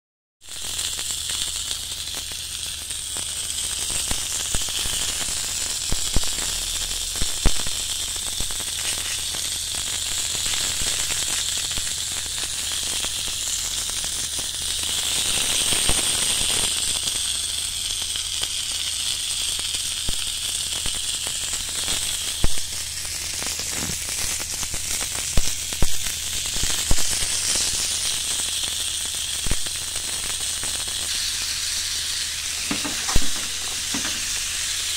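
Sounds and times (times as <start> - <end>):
stuffed pita sizzling in grill pan: 0.4 - 34.9
sharp pops and crackles: 0.5 - 34.8.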